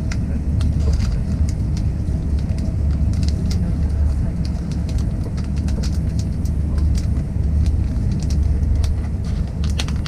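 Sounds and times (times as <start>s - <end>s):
moving train rumbling: 0.0s - 10.0s.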